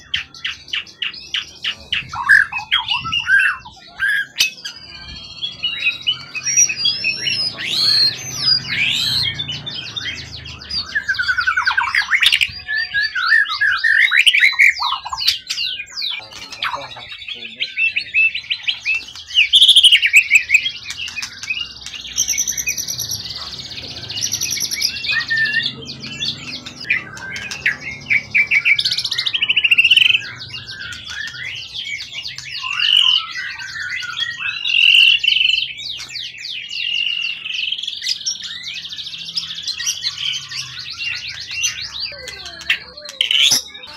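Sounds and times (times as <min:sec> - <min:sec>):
songbird singing trills: 0:00.0 - 0:43.9.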